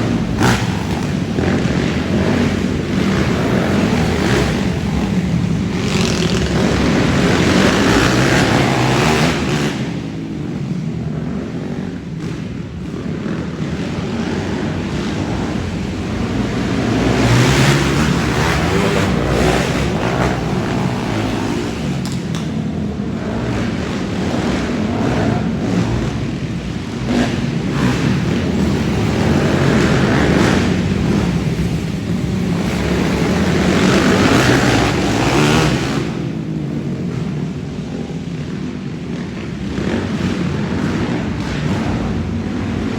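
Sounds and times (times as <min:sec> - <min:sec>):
quad engines revving and passing: 0:00.0 - 0:42.9.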